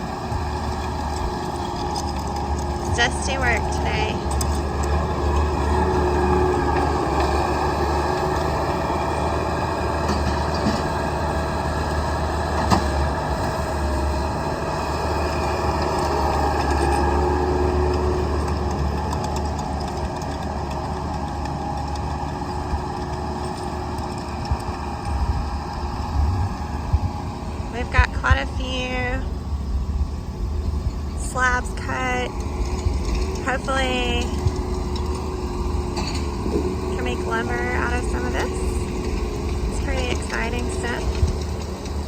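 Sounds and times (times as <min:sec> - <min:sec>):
motor engine running: 0:00.0 - 0:42.0.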